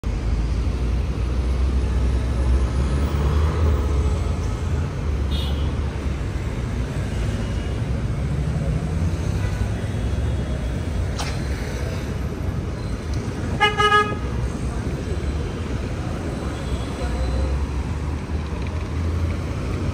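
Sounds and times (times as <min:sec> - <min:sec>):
rumble of passing cars: 0:00.0 - 0:19.9.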